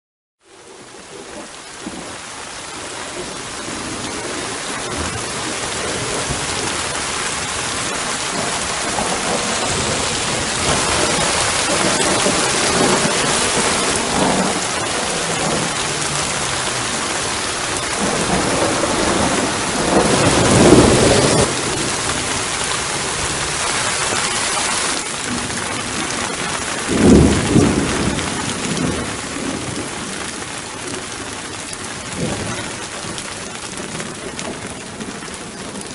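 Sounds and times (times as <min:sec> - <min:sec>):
steady rain: 0:00.4 - 0:35.9
thunder rumbling: 0:00.7 - 0:35.9.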